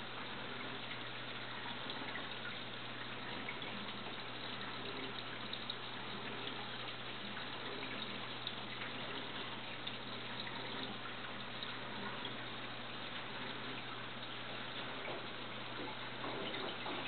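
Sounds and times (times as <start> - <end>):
aquarium water trickling: 0.0 - 17.0
faint drip-like ticks: 0.0 - 17.0
low steady hum: 0.0 - 17.0.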